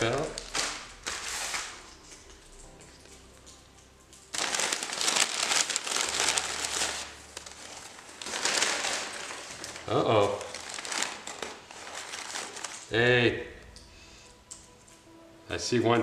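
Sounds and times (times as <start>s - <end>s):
packing material crinkling: 0.0s - 13.1s.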